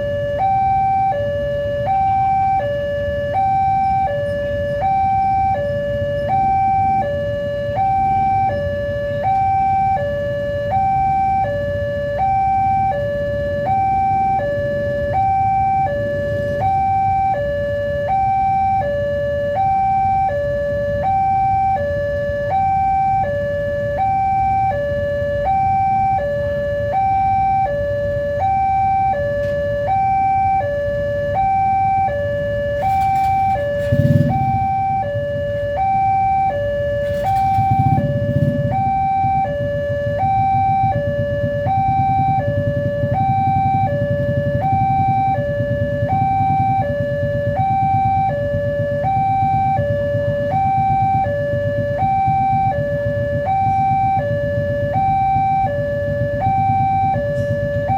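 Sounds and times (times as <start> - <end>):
two-tone crossing alarm: 0.0 - 57.9.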